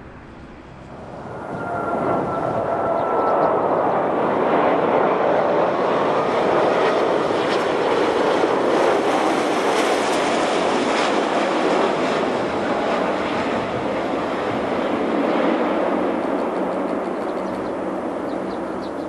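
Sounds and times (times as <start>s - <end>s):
jet airliner flying past: 0.0s - 19.0s.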